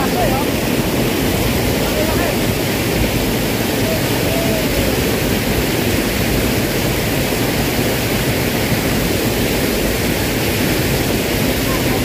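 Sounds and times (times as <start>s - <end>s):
rushing water in ditch: 0.0s - 12.0s.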